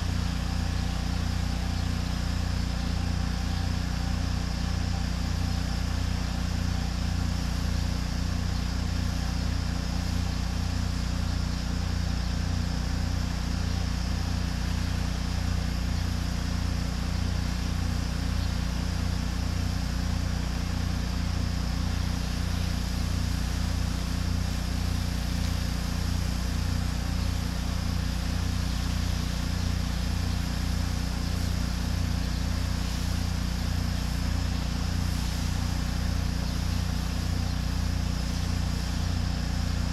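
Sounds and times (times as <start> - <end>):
high-pressure water spray hiss: 0.0 - 39.9
pressure washer engine running: 0.0 - 39.9.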